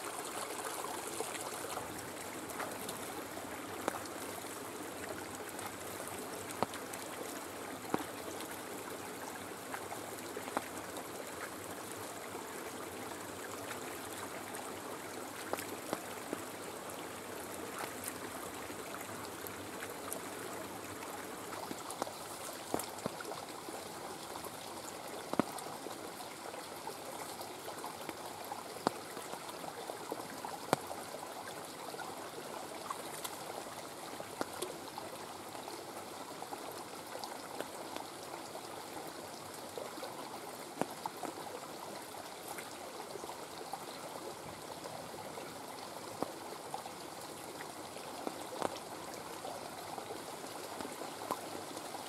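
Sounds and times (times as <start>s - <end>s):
stream trickling: 0.0s - 52.0s.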